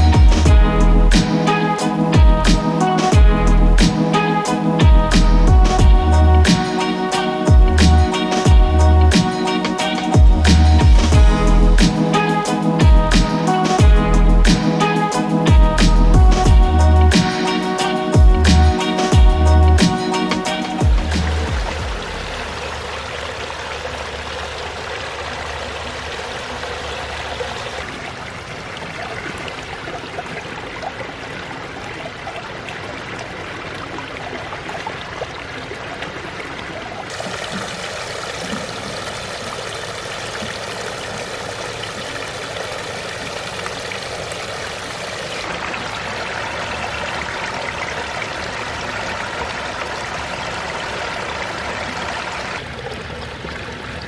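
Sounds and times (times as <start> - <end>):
waterfall splashing over rocks: 0.0 - 54.0.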